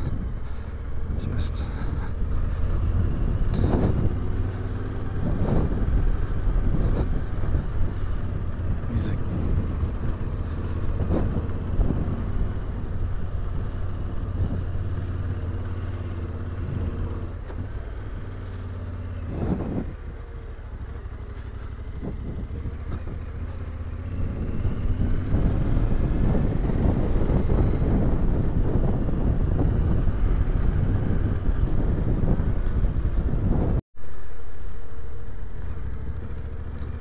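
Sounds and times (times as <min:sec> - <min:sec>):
wind noise: 0:00.0 - 0:33.8
motorcycle engine running: 0:00.0 - 0:37.0.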